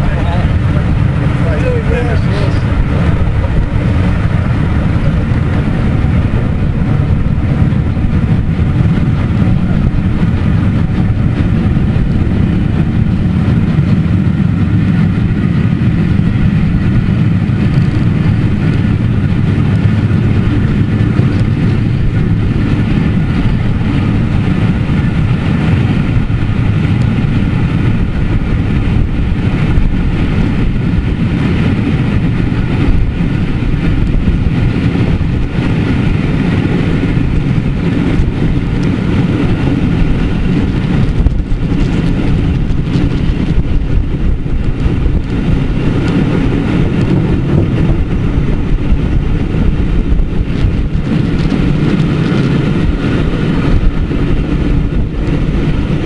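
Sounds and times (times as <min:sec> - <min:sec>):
train wheels on rails: 0:00.0 - 0:56.0
wind rushing: 0:00.0 - 0:56.0.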